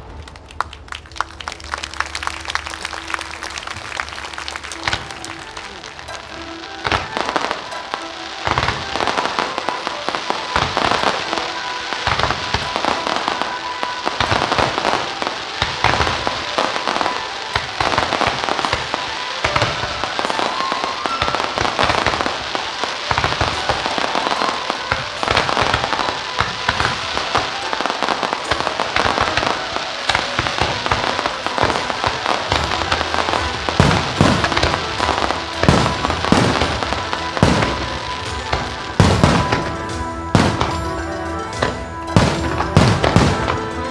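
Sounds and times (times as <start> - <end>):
fireworks bursting and crackling: 0.0 - 43.9
music playing: 0.0 - 43.9.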